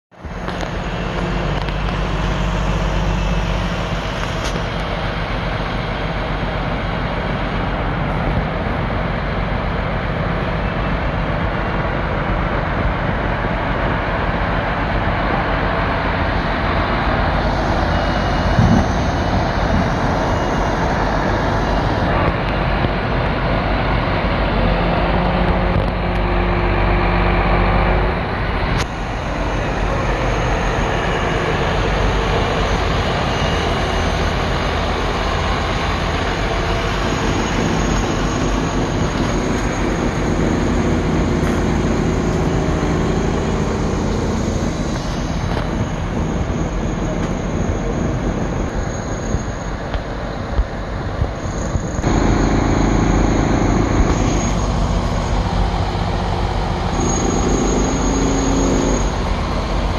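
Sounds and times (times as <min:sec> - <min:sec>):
diesel truck engine running: 0:00.1 - 0:59.9.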